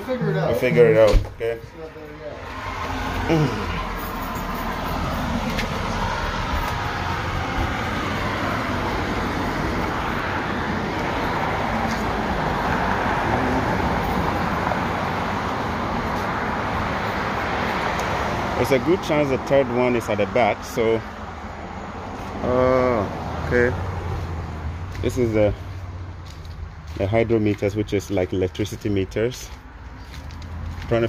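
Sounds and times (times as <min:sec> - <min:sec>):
cars passing: 0:00.0 - 0:31.0.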